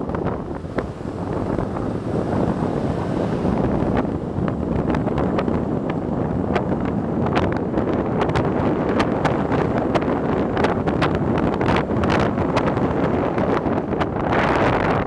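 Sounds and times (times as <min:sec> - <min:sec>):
vehicle running noise: 0:00.0 - 0:15.0
wind buffeting microphone: 0:00.0 - 0:15.0.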